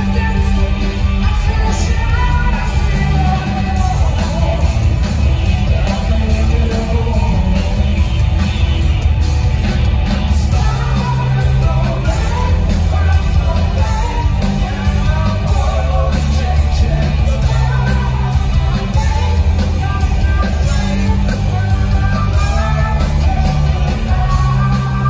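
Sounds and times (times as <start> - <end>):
person singing: 0.0 - 8.2, 10.4 - 25.0
drums: 0.0 - 25.0
electric guitar: 0.0 - 25.0
hard rock band playing live: 0.0 - 25.0.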